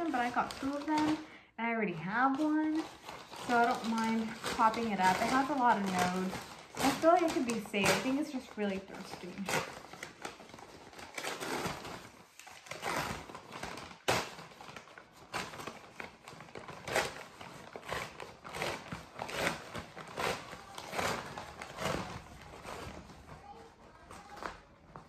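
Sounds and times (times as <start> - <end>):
wrapping rustling and crinkling: 0.0 - 25.0.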